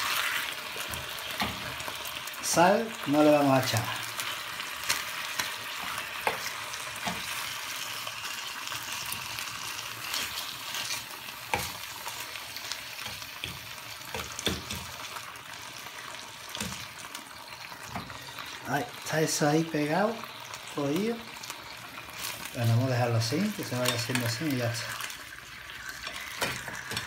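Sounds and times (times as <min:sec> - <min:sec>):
chicken sizzling in frying pan: 0:00.0 - 0:27.0.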